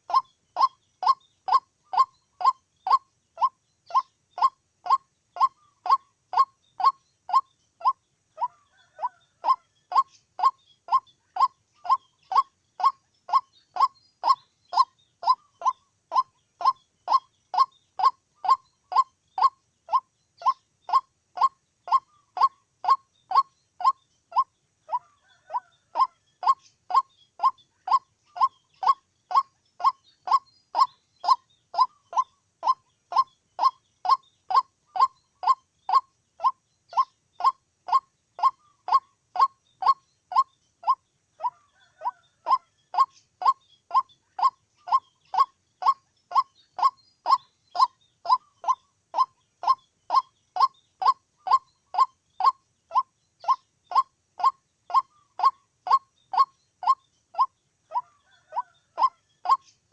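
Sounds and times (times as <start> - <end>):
waterhen calling: 0.0 - 59.8.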